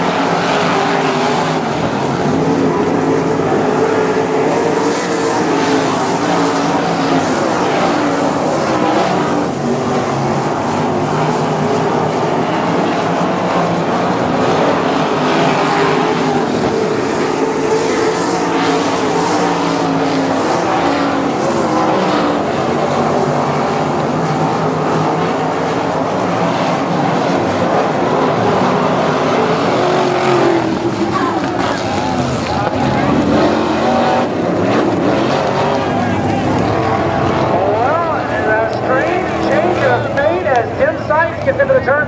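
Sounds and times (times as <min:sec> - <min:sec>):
racing car engines revving: 0:00.0 - 0:42.0.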